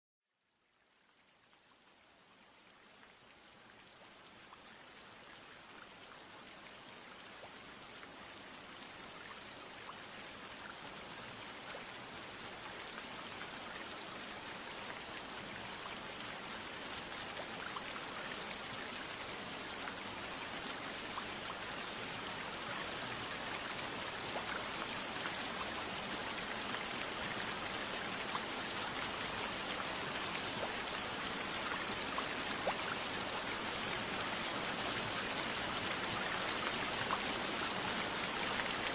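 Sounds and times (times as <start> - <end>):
steady rain hiss: 0.3 - 38.9.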